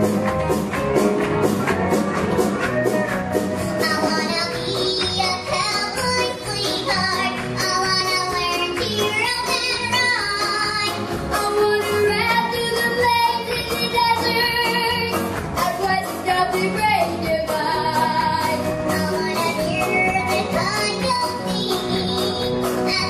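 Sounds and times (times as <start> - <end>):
live band playing: 0.0 - 23.0
girl singing: 3.7 - 23.0.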